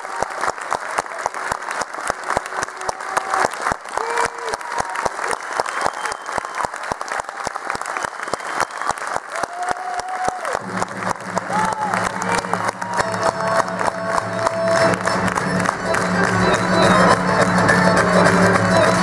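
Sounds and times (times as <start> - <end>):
audience rhythmic clapping: 0.0 - 19.0.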